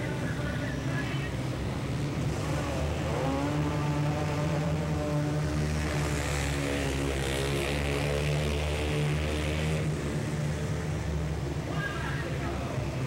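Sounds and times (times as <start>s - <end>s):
two-stroke engines at high revs: 0.0s - 13.0s.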